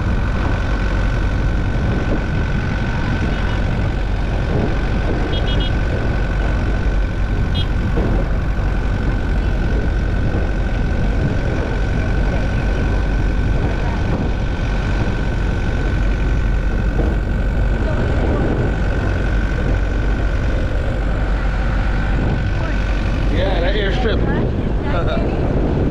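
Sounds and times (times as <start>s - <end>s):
car road and engine noise: 0.0s - 25.9s.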